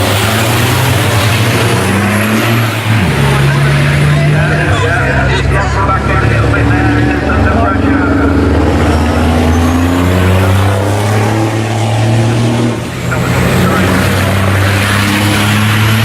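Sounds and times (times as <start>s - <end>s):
truck diesel engines droning: 0.0s - 16.0s.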